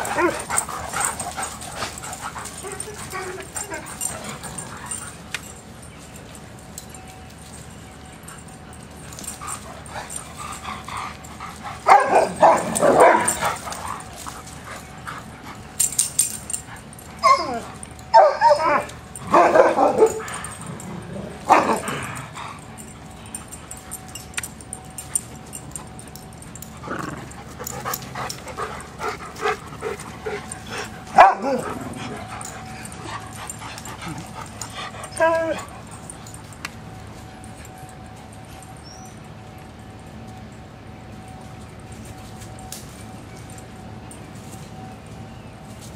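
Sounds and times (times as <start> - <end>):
dogs barking and yipping: 0.0 - 45.9.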